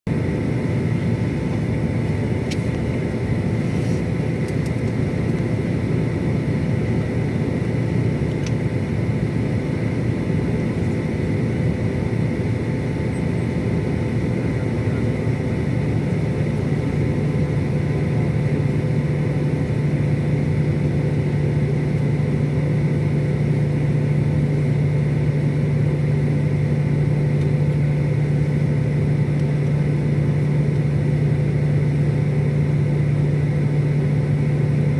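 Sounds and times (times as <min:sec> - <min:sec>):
jet engine whine: 0:00.1 - 0:34.9
jet engines droning: 0:00.1 - 0:34.9.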